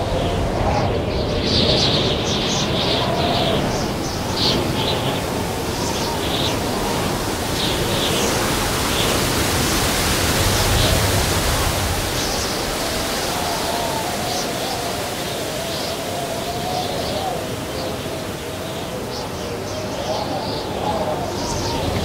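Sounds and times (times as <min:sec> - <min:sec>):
low wavering wind howl: 0:00.0 - 0:22.0
strong wind blowing: 0:00.0 - 0:22.0.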